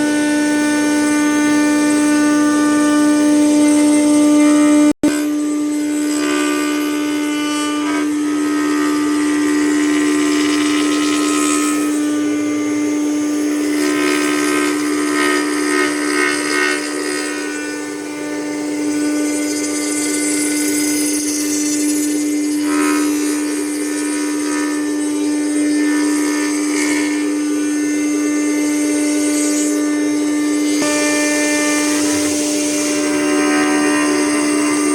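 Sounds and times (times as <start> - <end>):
bit carving wood: 0.0 - 34.9
router spindle high whine: 0.0 - 34.9.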